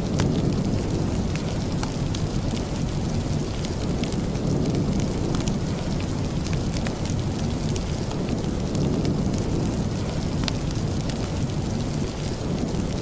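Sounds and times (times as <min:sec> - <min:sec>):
raindrop ticks: 0:00.0 - 0:13.0
steady rain: 0:00.0 - 0:13.0.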